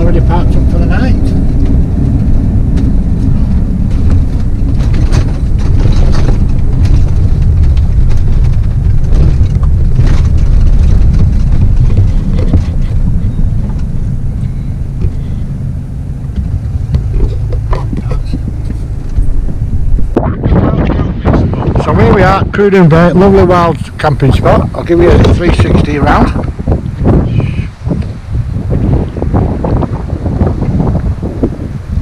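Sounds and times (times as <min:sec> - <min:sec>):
motorhome engine and road rumble: 0:00.0 - 0:32.0.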